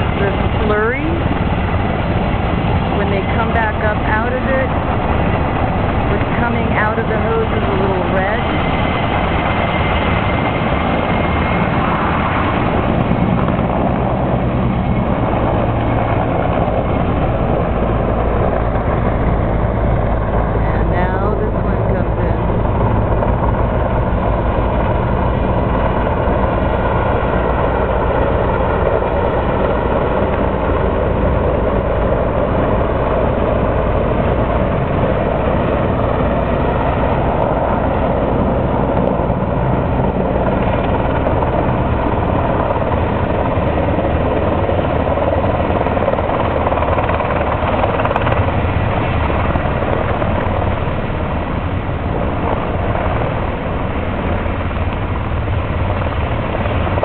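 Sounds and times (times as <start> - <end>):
helicopter flying: 0.0 - 57.0.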